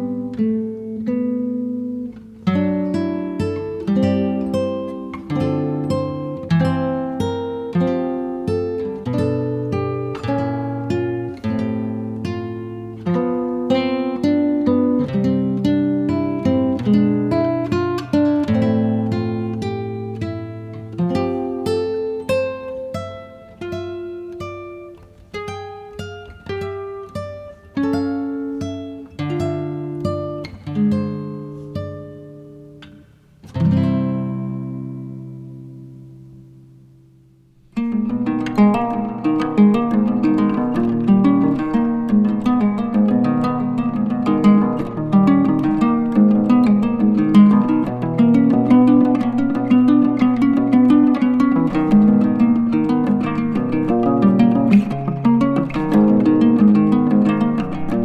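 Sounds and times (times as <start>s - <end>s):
acoustic guitar playing: 0.0s - 58.0s.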